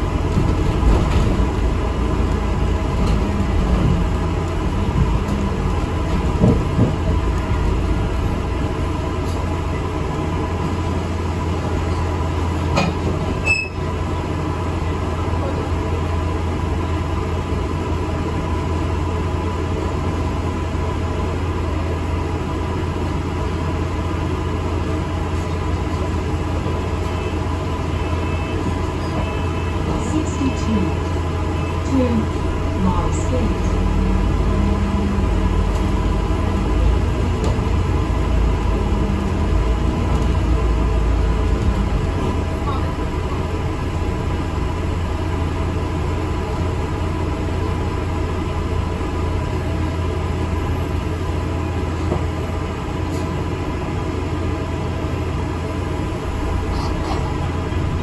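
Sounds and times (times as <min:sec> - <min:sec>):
bus engine drone: 0:00.0 - 0:58.0
road and cabin rumble: 0:00.0 - 0:58.0.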